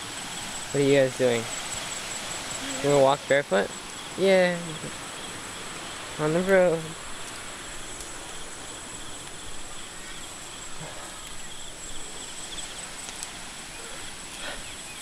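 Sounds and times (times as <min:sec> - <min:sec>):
faint outdoor hiss: 0:00.0 - 0:15.0
insect high whine: 0:00.0 - 0:15.0.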